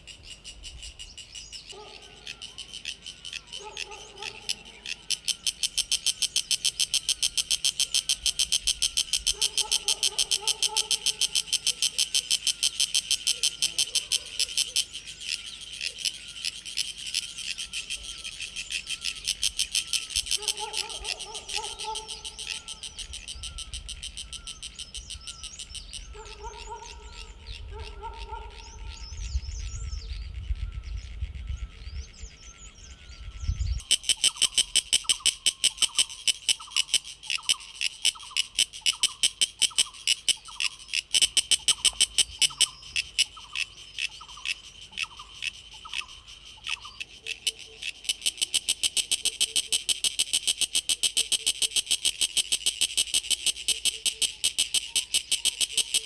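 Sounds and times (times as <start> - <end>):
cicada chirruping: 0.0 - 56.0
low bird calls: 0.0 - 56.0.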